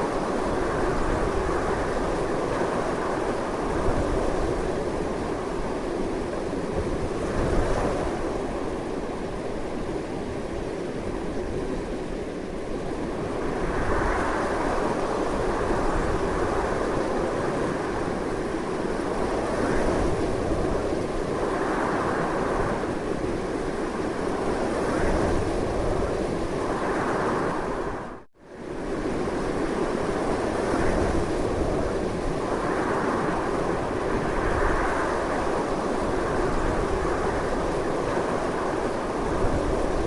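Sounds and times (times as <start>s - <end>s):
strong wind rushing: 0.0s - 40.0s.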